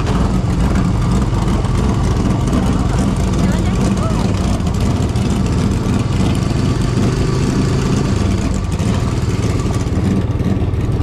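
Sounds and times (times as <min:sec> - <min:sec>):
race car engine idling: 0:00.0 - 0:11.0.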